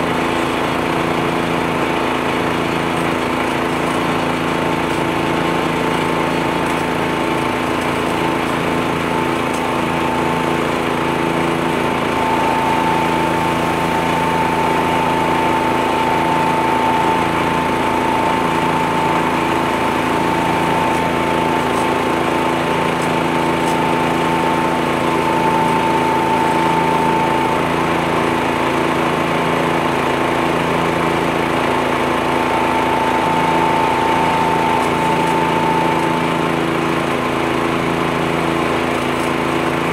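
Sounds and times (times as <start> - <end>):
high fan whine: 0.0 - 39.9
leaf blower engine drone: 0.0 - 39.9
tractor engine: 0.0 - 39.9.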